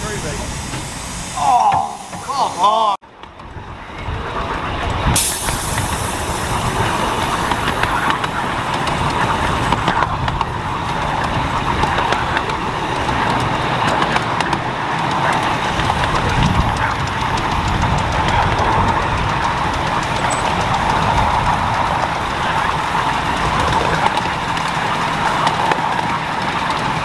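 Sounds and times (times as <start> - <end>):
miniature train running: 0.0 - 27.0.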